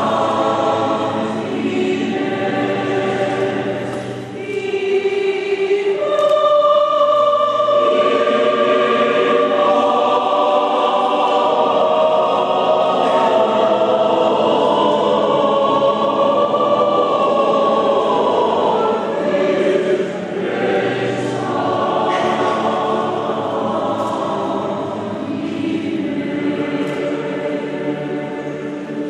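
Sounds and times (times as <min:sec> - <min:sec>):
choir singing long held notes: 0:00.0 - 0:29.0.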